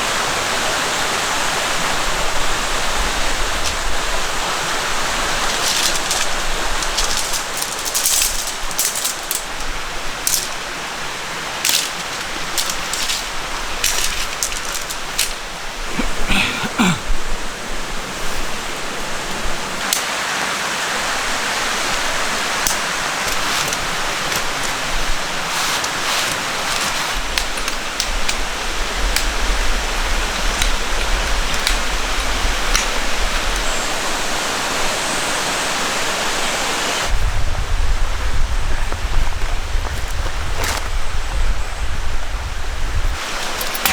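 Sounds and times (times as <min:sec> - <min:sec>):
stream running: 0:00.0 - 0:43.9.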